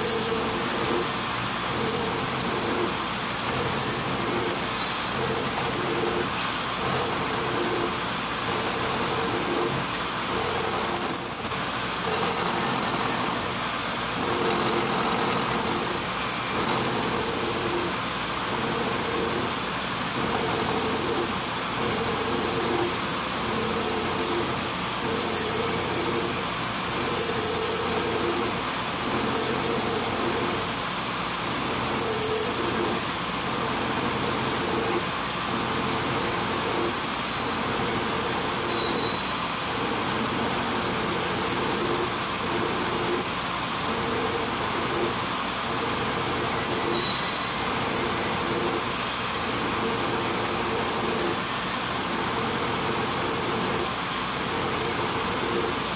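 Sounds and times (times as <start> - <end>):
cutter milling metal: 0.0 - 55.9
milling machine motor hum: 0.0 - 55.9.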